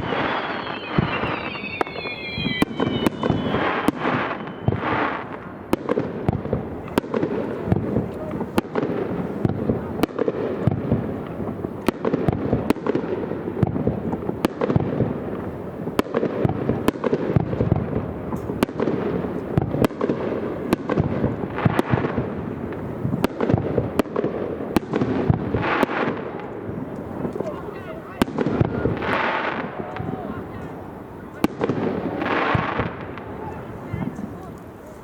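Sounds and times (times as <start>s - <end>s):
fireworks booming and cracking: 0.0s - 35.0s.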